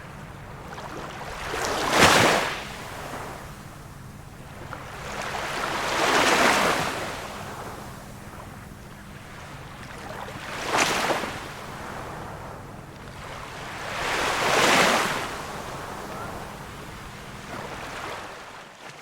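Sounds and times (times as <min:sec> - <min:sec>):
small waves washing in: 0:00.0 - 0:19.0.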